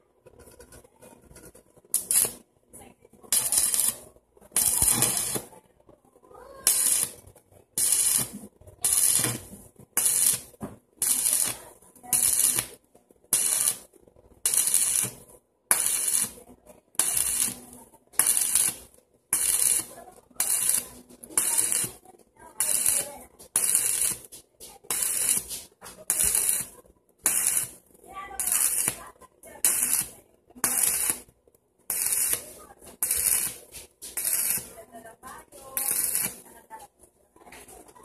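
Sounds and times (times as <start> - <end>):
arc welder crackling and hissing: 0.3 - 5.7, 6.3 - 37.7.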